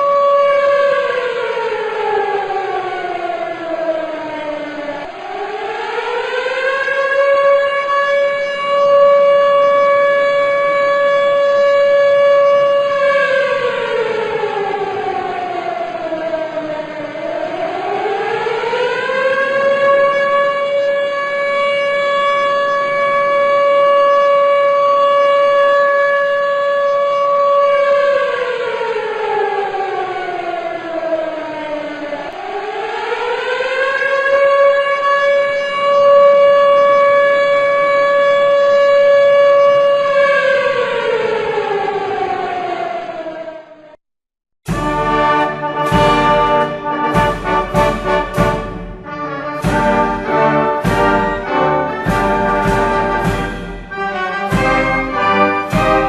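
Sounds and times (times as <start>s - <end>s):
civil defence siren wailing: 0.0s - 44.0s, 44.7s - 56.0s.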